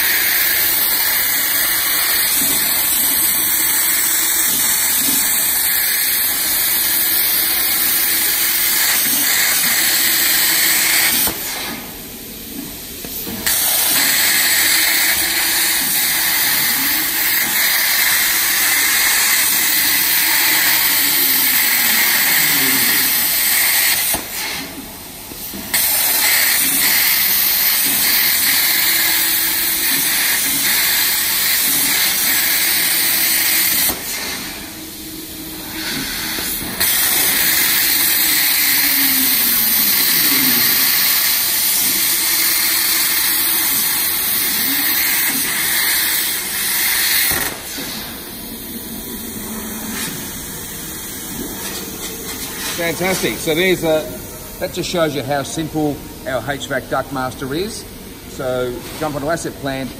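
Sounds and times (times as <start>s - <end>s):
plasma torch arc hissing: 0.0s - 59.9s.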